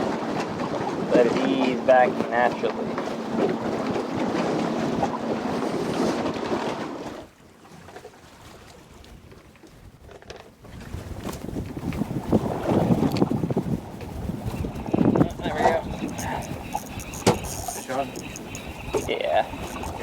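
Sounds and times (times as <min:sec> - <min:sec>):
water moving around boat: 0:00.0 - 0:20.0
wind buffeting microphone: 0:02.0 - 0:07.2, 0:08.9 - 0:20.0.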